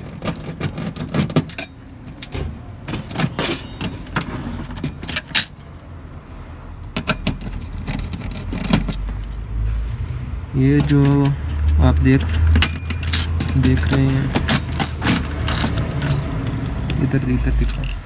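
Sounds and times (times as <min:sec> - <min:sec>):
circuit parts clicking and clattering: 0:00.0 - 0:05.6, 0:06.9 - 0:09.6, 0:10.6 - 0:18.0.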